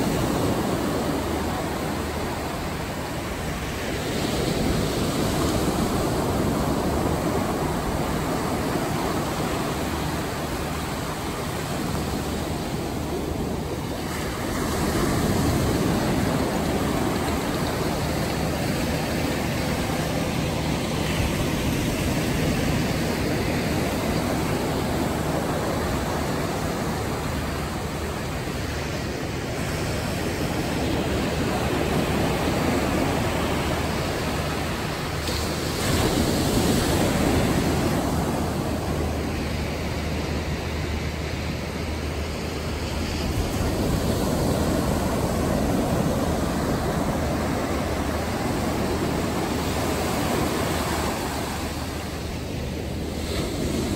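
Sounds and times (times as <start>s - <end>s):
ocean waves breaking on shore: 0.0s - 53.9s.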